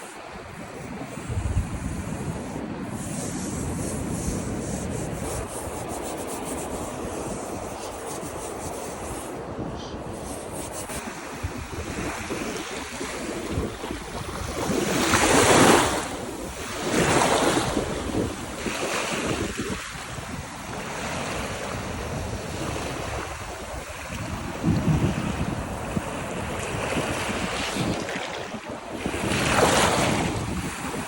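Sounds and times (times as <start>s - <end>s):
ocean waves breaking on beach: 0.0s - 31.0s
wind buffeting microphone: 0.0s - 31.0s.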